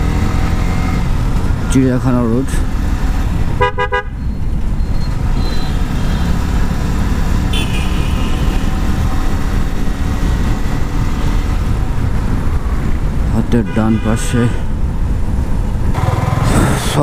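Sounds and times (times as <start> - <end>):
motorcycle engine riding: 0.0 - 3.6, 4.2 - 13.3, 14.7 - 17.0
road noise: 0.0 - 17.0.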